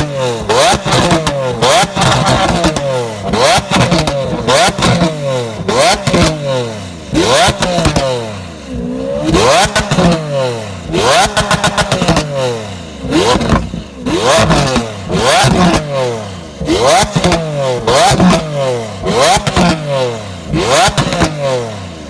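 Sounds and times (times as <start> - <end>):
exhaust crackle: 0.0 - 21.7
sports car engine revving: 0.0 - 22.0.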